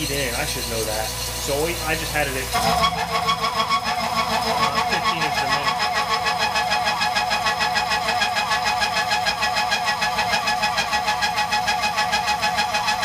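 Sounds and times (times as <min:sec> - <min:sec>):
milling machine cutting metal: 0:00.0 - 0:13.0.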